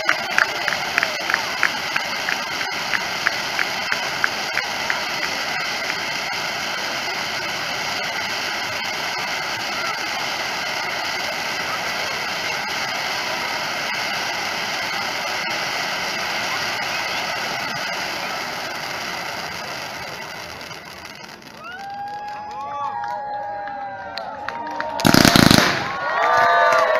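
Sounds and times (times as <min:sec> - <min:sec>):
firework fountains hissing and crackling: 0:00.0 - 0:23.0, 0:25.0 - 0:26.0.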